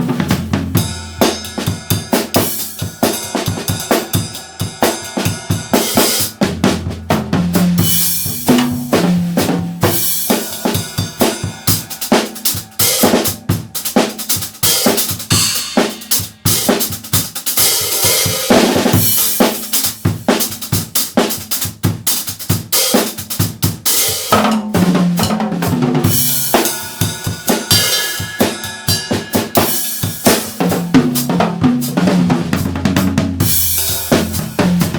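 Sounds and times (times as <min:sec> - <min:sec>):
drum kit groove: 0:00.0 - 0:34.9.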